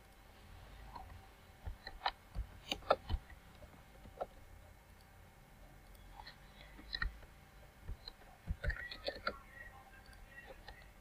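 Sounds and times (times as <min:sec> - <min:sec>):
computer mouse and keyboard clicks: 0:00.9 - 0:05.1, 0:05.8 - 0:11.0.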